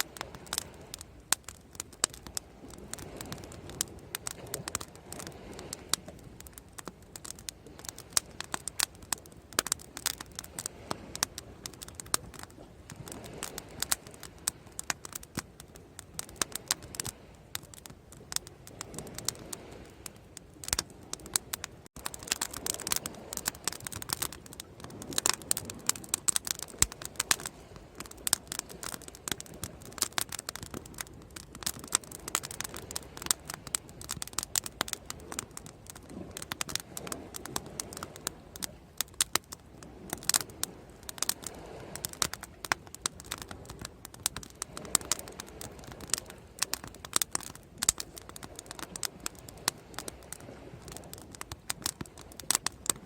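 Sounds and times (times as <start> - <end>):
bonfire crackling: 0.0 - 53.0.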